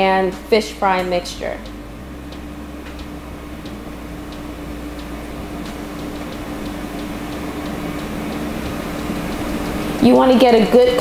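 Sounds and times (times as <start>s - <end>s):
air fryer fan hum: 0.0s - 11.0s.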